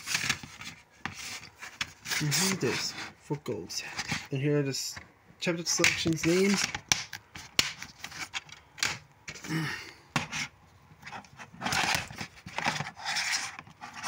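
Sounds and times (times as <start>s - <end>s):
plastic rubbing and scraping: 0.0s - 3.2s, 3.8s - 4.3s, 5.7s - 9.5s, 10.2s - 14.0s.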